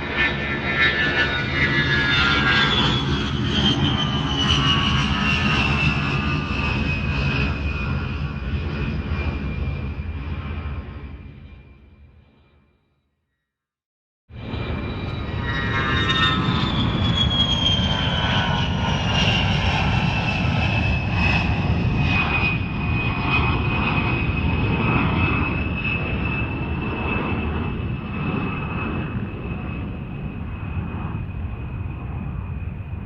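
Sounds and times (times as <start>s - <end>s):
deep jet rumble: 0.0s - 12.1s, 14.3s - 33.0s
jet engine whine: 0.0s - 13.0s, 14.3s - 33.0s.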